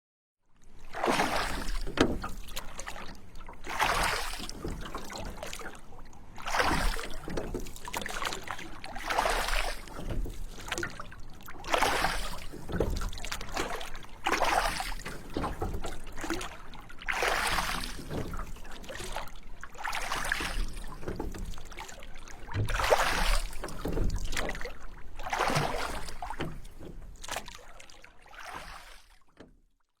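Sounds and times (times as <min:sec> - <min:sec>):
water lapping: 0:00.7 - 0:29.5
oar strokes splashing: 0:00.8 - 0:29.6.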